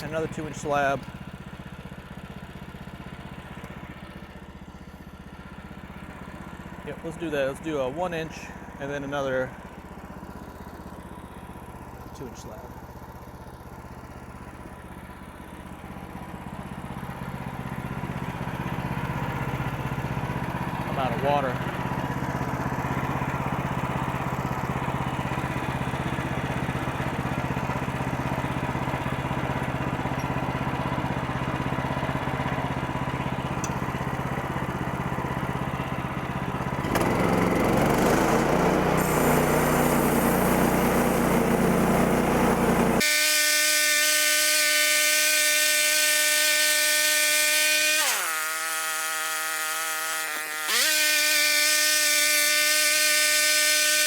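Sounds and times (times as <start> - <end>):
saw blade running: 0.0 - 1.2, 3.3 - 54.0
gas engine running: 0.0 - 54.0.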